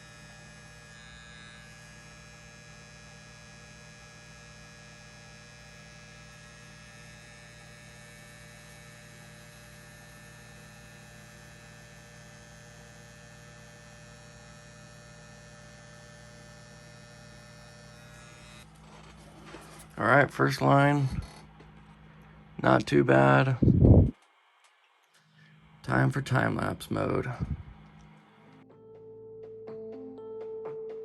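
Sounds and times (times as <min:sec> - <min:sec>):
tattoo machine humming: 0:00.0 - 0:28.6.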